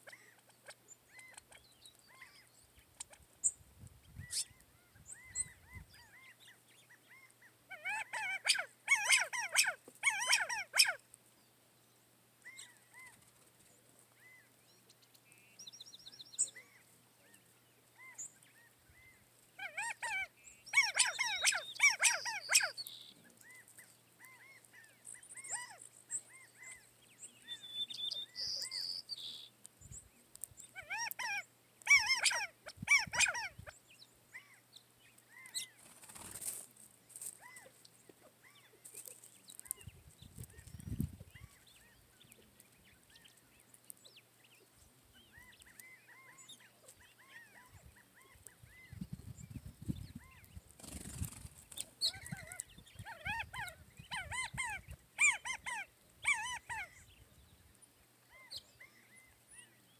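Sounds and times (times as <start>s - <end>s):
birds chattering calls: 0.0s - 59.9s.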